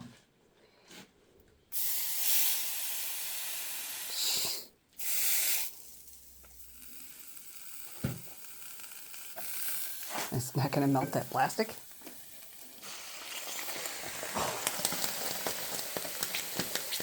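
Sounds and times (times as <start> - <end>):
liquid hissing on hot metal: 1.7 - 17.0.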